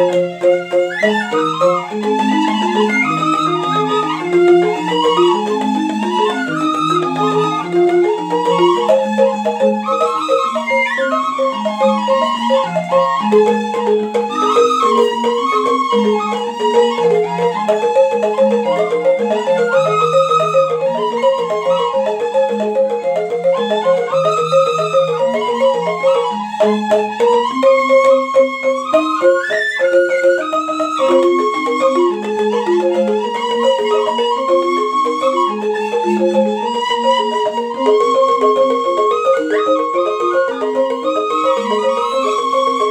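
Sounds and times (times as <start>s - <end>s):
bamboo flutes: 0.0s - 42.9s
bamboo xylophones struck with mallets: 0.0s - 42.9s.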